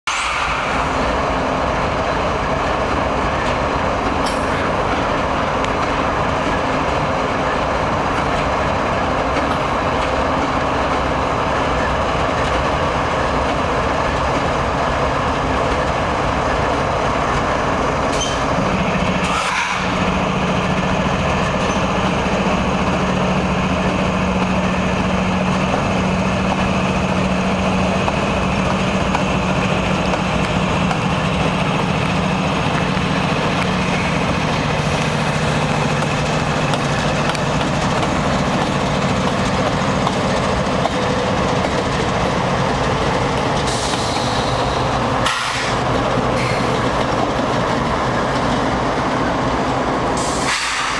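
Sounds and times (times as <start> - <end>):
locomotive engine rumble: 0.1 - 50.9
wheels on rail: 0.1 - 50.9.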